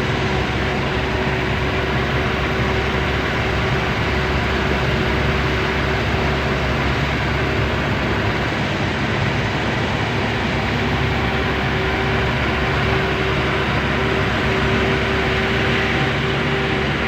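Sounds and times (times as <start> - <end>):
road noise: 0.0 - 17.0
truck engine droning: 0.0 - 17.0.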